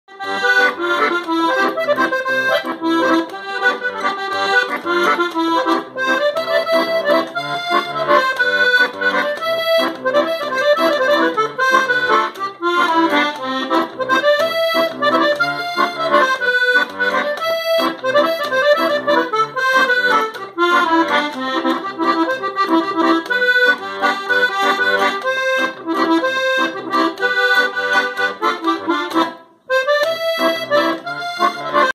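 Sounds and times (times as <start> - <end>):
button accordion playing tune: 0.1 - 31.9.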